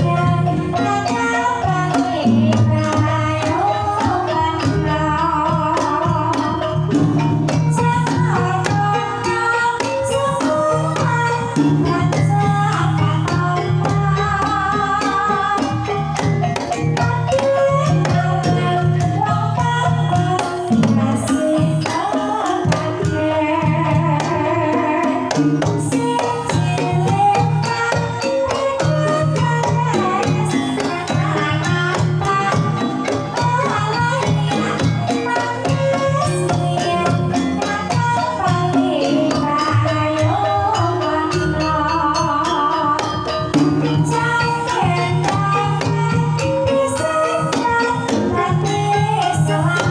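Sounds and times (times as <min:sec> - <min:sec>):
gamelan ensemble: 0:00.0 - 0:49.9
hand drum strokes: 0:00.0 - 0:49.9
mallet-struck keyed instruments: 0:00.0 - 0:49.9
woman singing wavering melody: 0:00.0 - 0:49.9.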